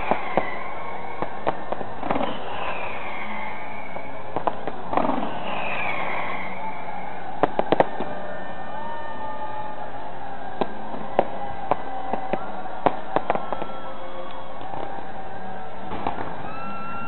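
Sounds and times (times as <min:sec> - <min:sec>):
fireworks bangs and crackles: 0:00.0 - 0:08.7, 0:09.5 - 0:17.0
falling whistling tones: 0:00.0 - 0:09.8, 0:10.6 - 0:17.0.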